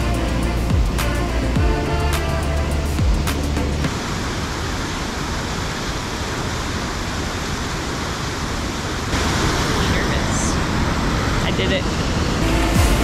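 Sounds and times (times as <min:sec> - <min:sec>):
falling water rushing: 0:00.0 - 0:13.0.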